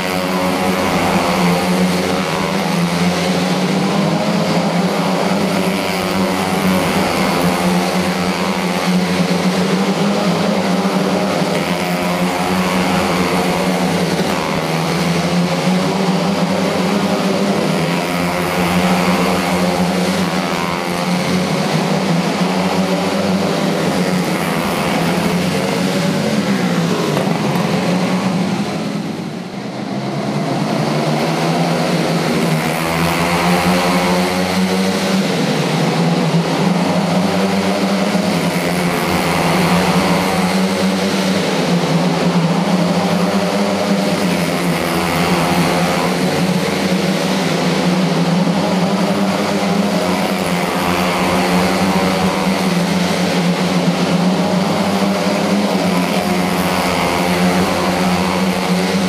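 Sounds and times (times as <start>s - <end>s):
small race car engines buzzing: 0.0s - 59.0s.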